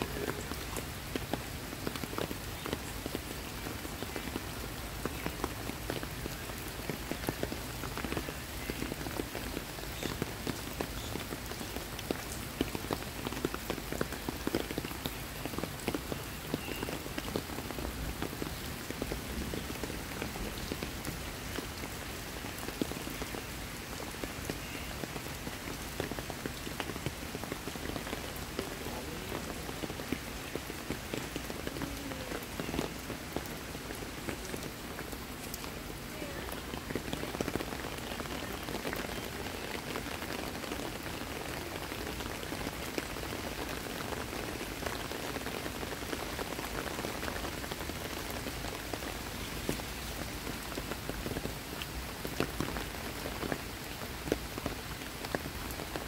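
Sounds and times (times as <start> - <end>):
rain on leaves and wet paving: 0.0 - 56.0.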